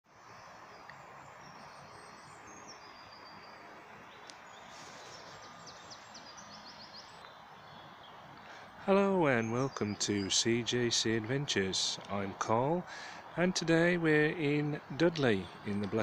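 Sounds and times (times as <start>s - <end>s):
outdoor background hiss: 0.1s - 16.0s
songbirds singing: 0.1s - 16.0s.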